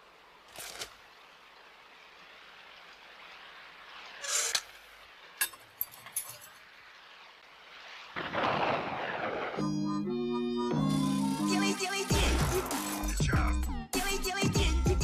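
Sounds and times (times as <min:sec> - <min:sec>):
low hiss: 0:00.0 - 0:13.2.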